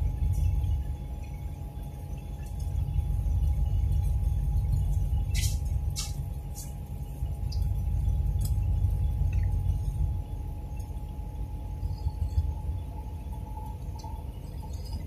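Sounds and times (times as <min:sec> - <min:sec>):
road and engine rumble inside vehicle: 0:00.0 - 0:15.0.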